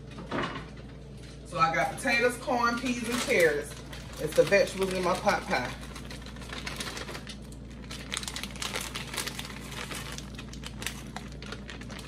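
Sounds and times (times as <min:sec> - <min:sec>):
plastic bag crinkling: 0:02.0 - 0:12.0.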